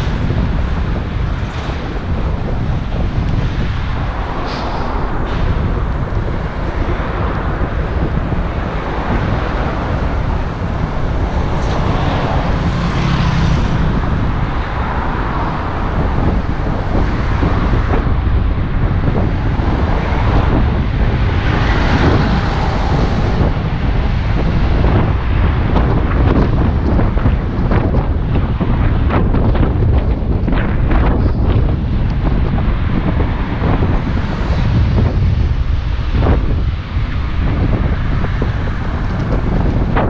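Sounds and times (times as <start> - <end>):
road traffic noise: 0.0 - 40.0
wind rumble on microphone: 0.0 - 40.0.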